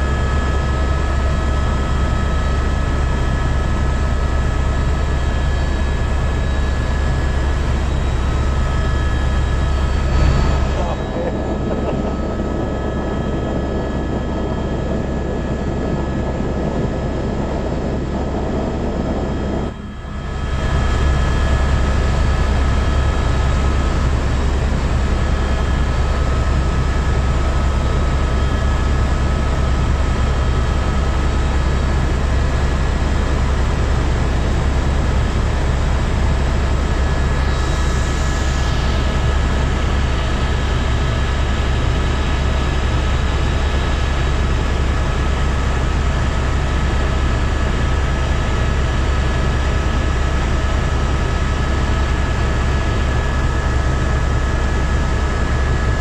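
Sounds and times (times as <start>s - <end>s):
helicopter engine and rotor drone: 0.0s - 56.0s
high turbine whine: 0.0s - 56.0s.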